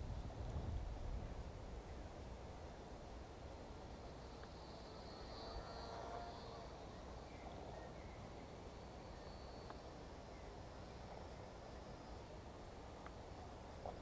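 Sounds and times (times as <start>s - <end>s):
faint open-air background noise: 0.0s - 14.0s.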